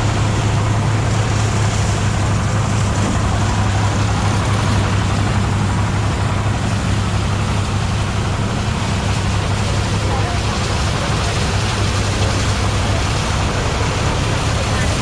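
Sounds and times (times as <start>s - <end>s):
threshing machine running: 0.0s - 15.0s.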